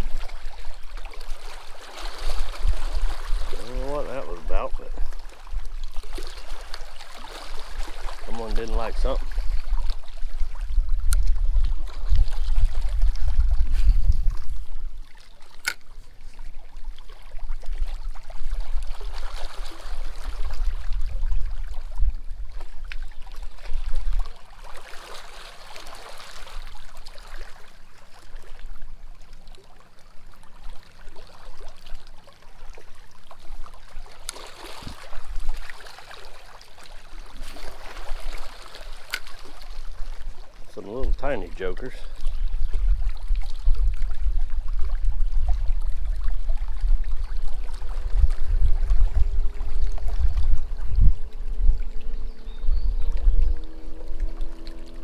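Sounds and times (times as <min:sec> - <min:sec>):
wind rumbling on microphone: 0:00.0 - 0:24.6, 0:33.3 - 0:35.9, 0:37.2 - 0:55.0
waves lapping against rocks: 0:00.0 - 0:55.0.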